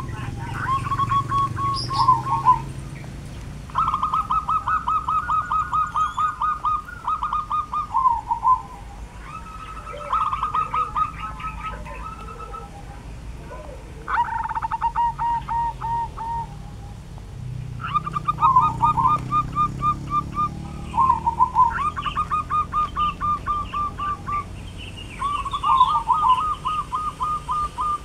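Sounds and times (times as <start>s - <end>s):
second bird calling: 0.0s - 2.8s, 3.7s - 17.0s, 17.8s - 28.0s.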